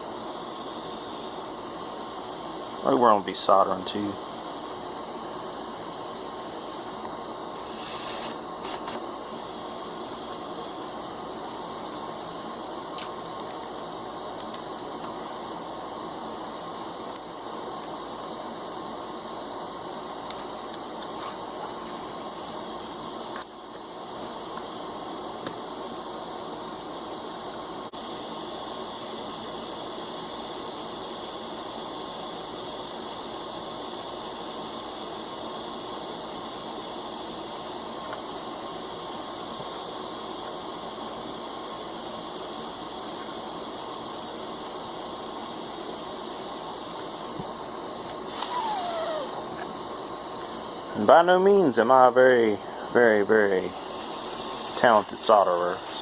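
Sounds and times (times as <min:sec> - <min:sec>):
soldering iron hissing: 0:00.0 - 0:56.0.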